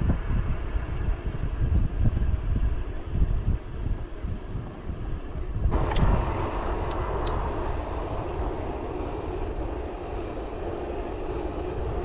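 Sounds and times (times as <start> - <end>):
bicycle tyres on road: 0.0 - 12.0
wind on microphone: 0.0 - 12.0.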